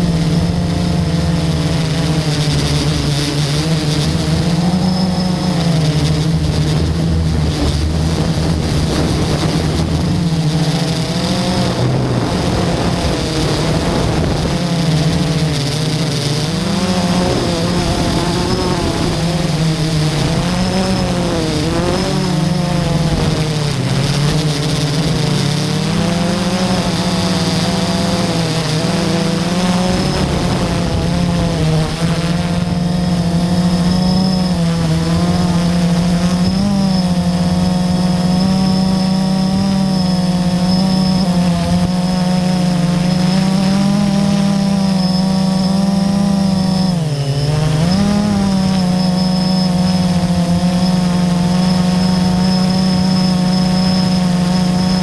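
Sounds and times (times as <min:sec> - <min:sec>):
quadcopter propellers buzzing: 0:00.0 - 0:55.0.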